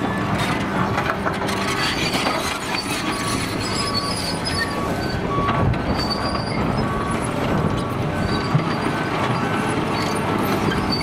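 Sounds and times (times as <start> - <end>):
diesel engine running: 0.0 - 11.0
tracks squealing: 1.5 - 11.0.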